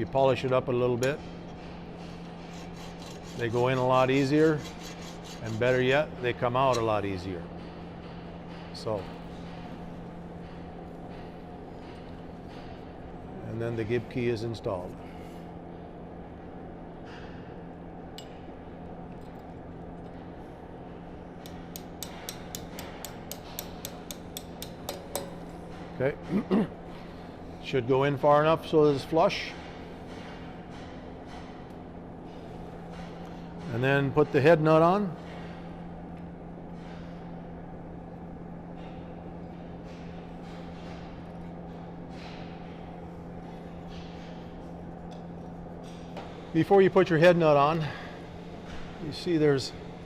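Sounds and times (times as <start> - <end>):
steady hum: 0.0 - 50.0.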